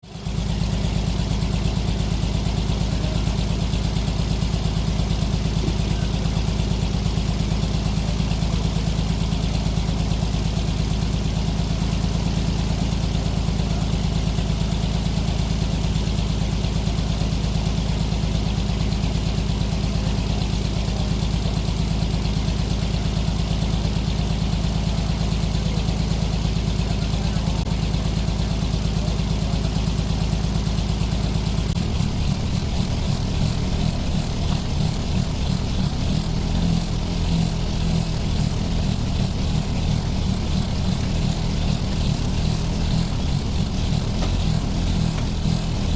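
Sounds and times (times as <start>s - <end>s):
sawmill engine rumble: 0.2s - 45.9s.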